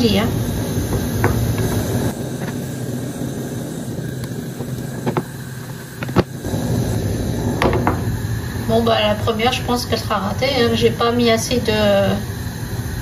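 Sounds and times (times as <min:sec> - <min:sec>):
low roar with hum: 0:00.0 - 0:13.0.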